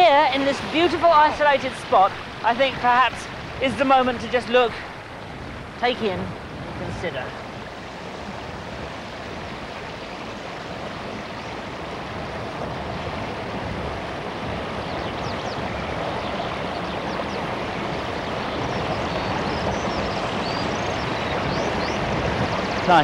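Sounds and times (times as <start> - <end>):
stream rushing over stones: 0.0 - 23.0.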